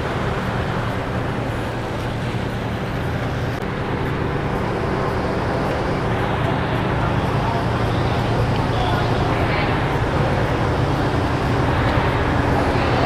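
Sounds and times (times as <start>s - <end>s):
ship engine humming: 0.0s - 13.0s.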